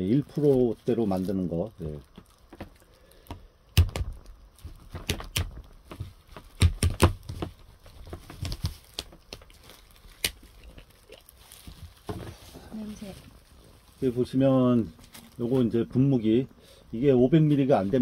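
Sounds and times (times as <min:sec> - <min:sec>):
plastic glove crinkling: 0:00.0 - 0:16.4.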